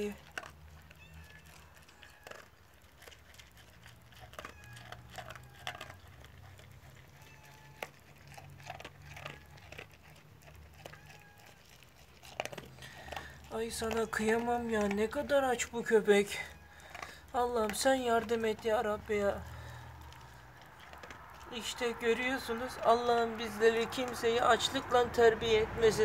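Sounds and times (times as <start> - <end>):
dog crunching dry kibble: 0.0 - 26.0.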